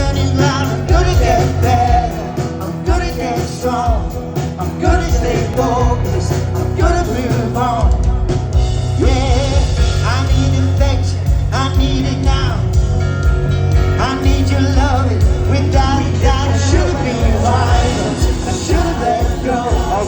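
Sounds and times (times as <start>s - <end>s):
person singing: 0.0s - 8.3s, 8.9s - 12.8s, 13.8s - 20.0s
live rock band music: 0.0s - 20.0s.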